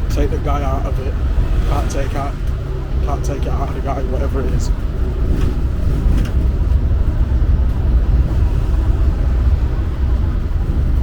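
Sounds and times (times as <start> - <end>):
vehicle rumble from on board: 0.0 - 11.0.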